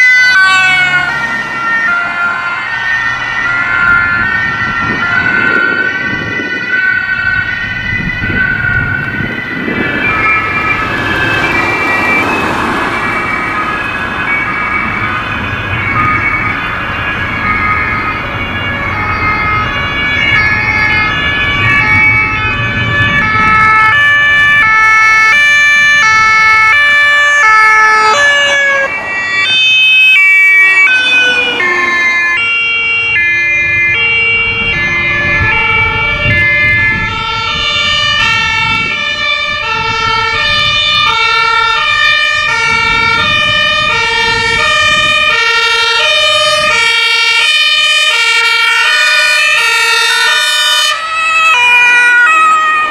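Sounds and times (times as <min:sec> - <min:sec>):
two-tone emergency sirens: 0:00.0 - 0:52.9
vehicle engine and tyre noise: 0:00.0 - 0:52.9.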